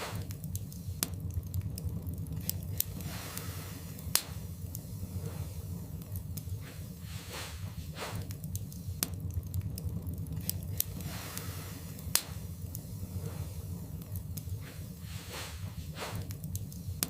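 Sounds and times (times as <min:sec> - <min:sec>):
fire flames rumbling: 0:00.0 - 0:17.0
logs crackling and popping: 0:00.0 - 0:17.0
soft hiss of fire: 0:00.0 - 0:17.0.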